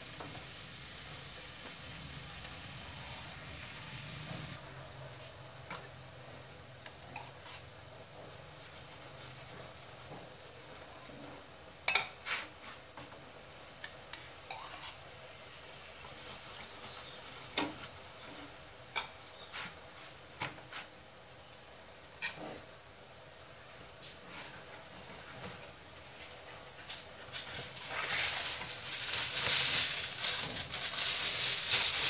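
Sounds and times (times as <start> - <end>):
faint sizzle: 0.0 - 32.0.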